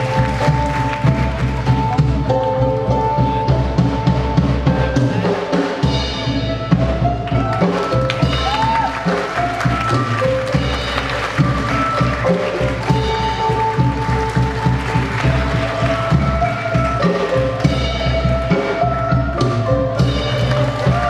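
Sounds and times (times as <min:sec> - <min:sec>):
music with drum beat and melody: 0:00.0 - 0:21.0.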